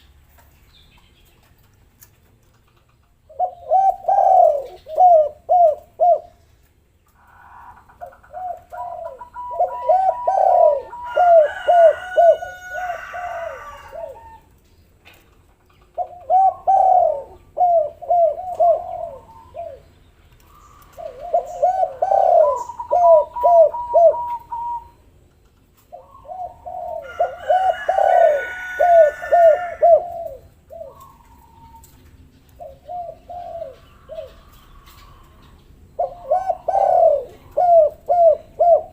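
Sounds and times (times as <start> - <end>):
small birds chirping: 0.0 - 27.5, 28.3 - 38.9
doves cooing: 2.4 - 38.9.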